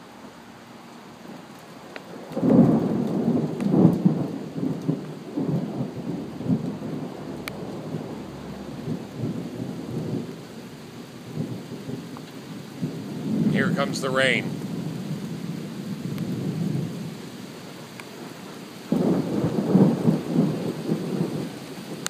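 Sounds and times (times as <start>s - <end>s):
thunder rumbling: 1.3s - 22.0s.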